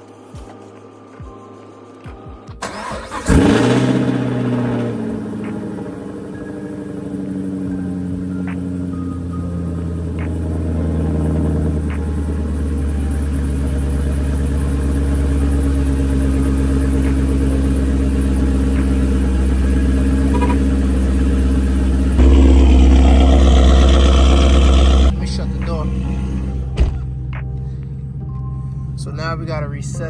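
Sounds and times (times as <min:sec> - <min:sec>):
car engine idling: 0:02.6 - 0:30.0.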